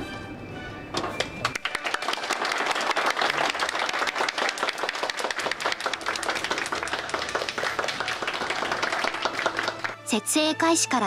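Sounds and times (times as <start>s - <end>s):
crowd applauding: 1.0s - 10.0s.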